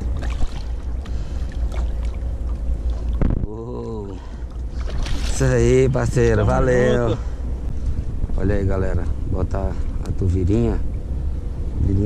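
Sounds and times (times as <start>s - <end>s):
water splashing against boat: 0.0s - 11.8s
wind rumble on microphone: 0.0s - 12.0s.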